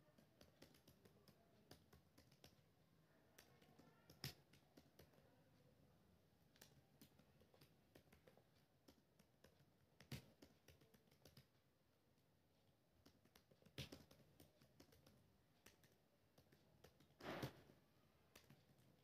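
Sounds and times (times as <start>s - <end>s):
laptop keyboard typing: 0.0s - 5.6s, 6.4s - 19.0s.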